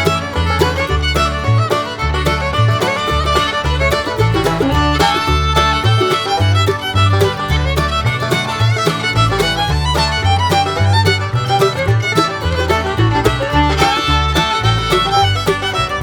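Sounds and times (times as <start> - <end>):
steady bass line: 0.0 - 16.0
upbeat fiddle tune: 0.0 - 16.0.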